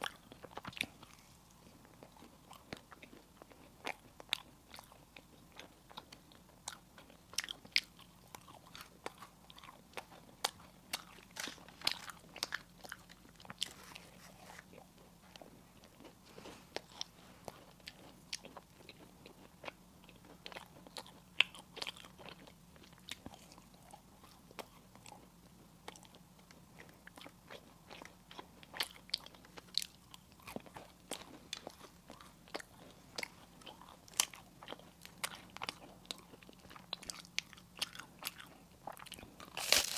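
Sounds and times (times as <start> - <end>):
crunching bites and chewing: 1.9 - 25.3, 26.8 - 39.9.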